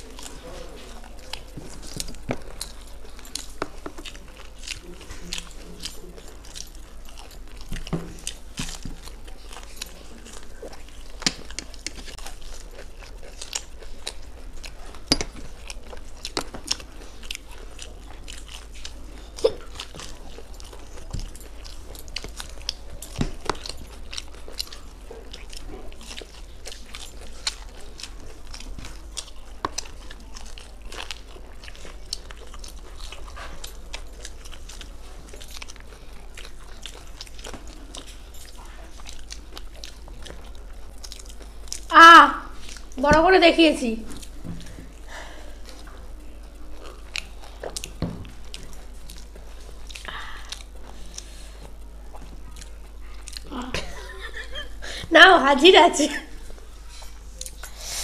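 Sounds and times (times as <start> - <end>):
people chewing with crunches: 0.0 - 58.0.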